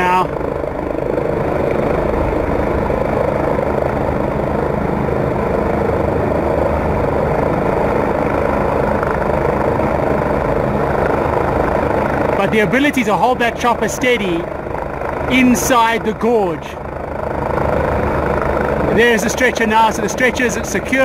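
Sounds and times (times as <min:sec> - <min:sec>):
helicopter engine running: 0:00.0 - 0:21.0
helicopter rotor blades beating: 0:00.0 - 0:21.0.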